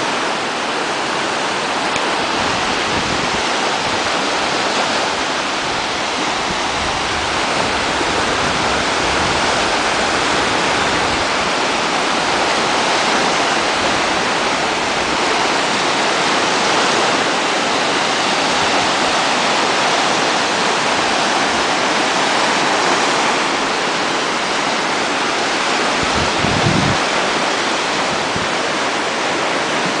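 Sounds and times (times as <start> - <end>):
waves washing onto shore: 0.0 - 30.0.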